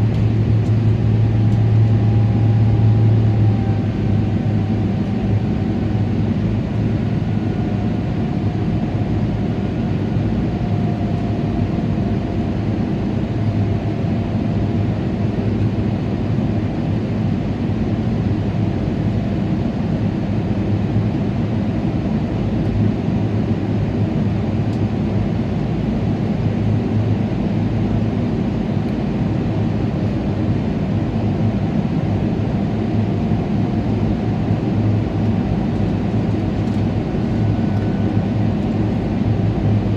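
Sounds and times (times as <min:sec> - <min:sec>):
airplane cabin engine drone: 0:00.0 - 0:39.9
faint engine whine: 0:00.0 - 0:39.9.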